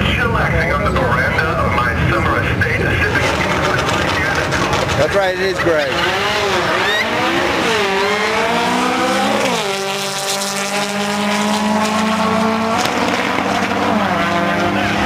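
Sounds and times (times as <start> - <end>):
car engine at high revs: 2.9 - 15.0.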